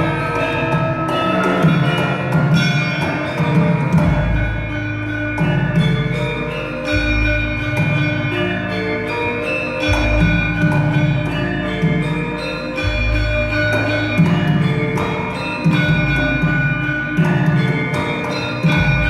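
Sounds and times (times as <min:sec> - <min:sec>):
ringing metallophone tones: 0:00.0 - 0:19.0.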